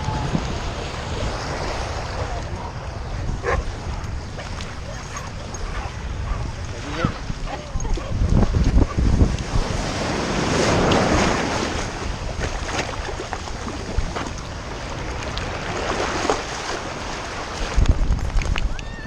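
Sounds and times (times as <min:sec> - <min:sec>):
ocean surf washing onto beach: 0:00.0 - 0:19.0
wind buffeting microphone: 0:00.0 - 0:19.0.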